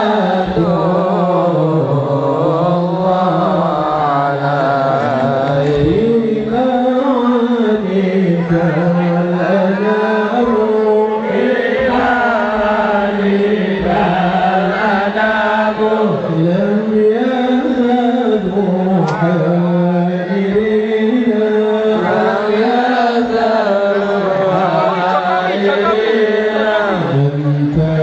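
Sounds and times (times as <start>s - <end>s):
person chanting devotional song: 0.0s - 28.0s.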